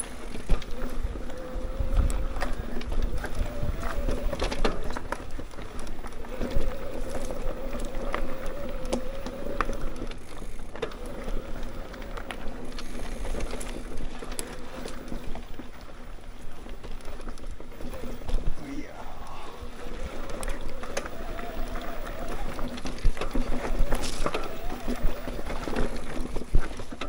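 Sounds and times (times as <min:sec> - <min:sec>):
tyres crunching over dirt: 0:00.0 - 0:27.0.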